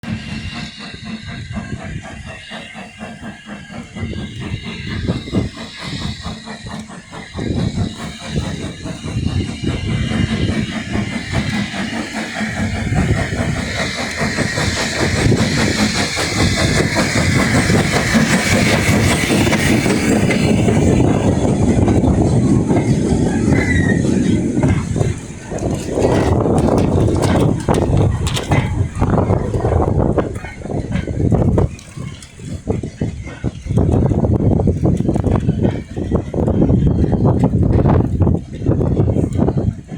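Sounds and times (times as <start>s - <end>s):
steam locomotive chuffing: 0.0s - 39.9s
wheels clattering over rails: 3.1s - 39.9s.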